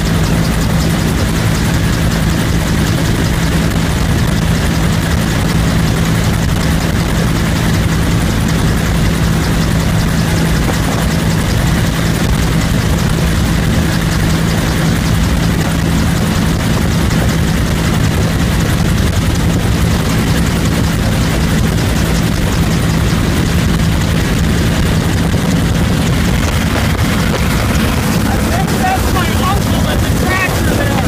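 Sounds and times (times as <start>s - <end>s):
helicopter drone inside cabin: 0.0s - 31.0s.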